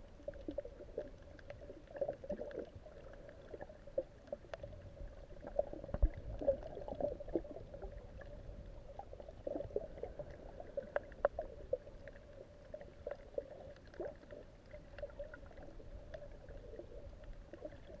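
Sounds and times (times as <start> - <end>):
steady underwater hum: 0.0 - 18.0
underwater clicks and crackles: 0.0 - 18.0.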